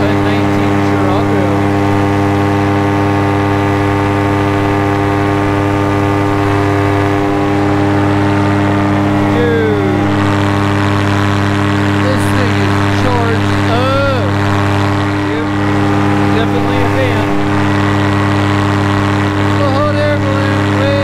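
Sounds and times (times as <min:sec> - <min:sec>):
paramotor engine droning: 0:00.0 - 0:21.0.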